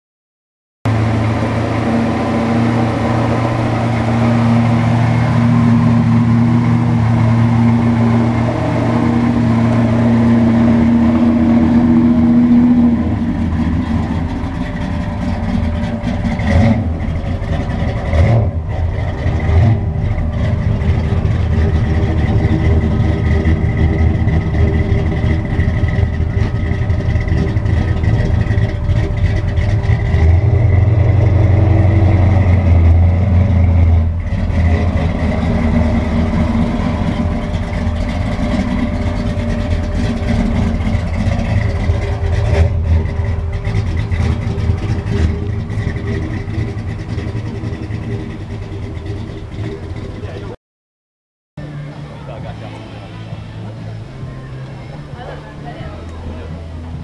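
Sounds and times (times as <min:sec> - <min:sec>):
car engine idling: 0:00.8 - 0:50.6, 0:51.6 - 0:57.0.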